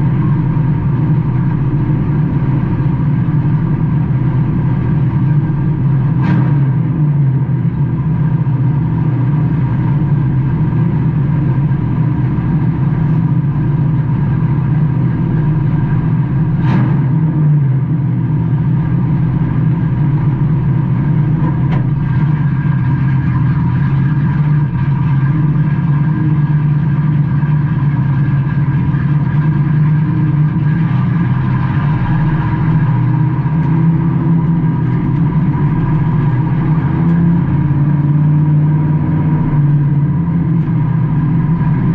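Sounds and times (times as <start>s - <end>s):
race car engine running: 0.0s - 41.9s.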